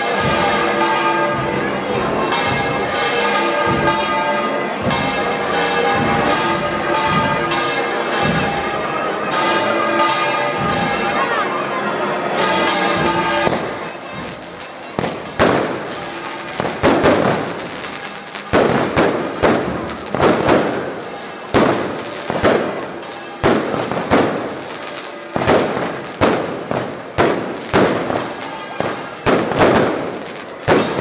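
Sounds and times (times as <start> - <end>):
fireworks bangs with crackling: 0.0 - 11.2, 12.2 - 31.0.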